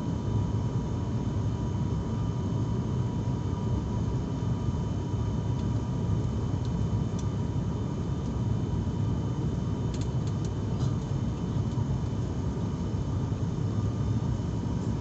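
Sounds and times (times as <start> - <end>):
airliner engine rumble in cabin: 0.0 - 15.0
faint steady whine: 0.0 - 15.0.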